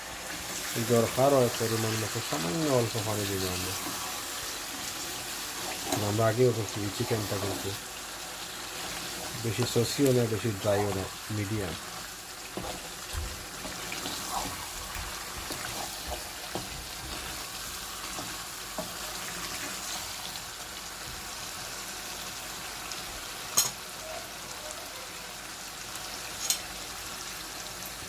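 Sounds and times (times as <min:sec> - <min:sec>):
curry sizzling in a pan: 0:00.0 - 0:28.0.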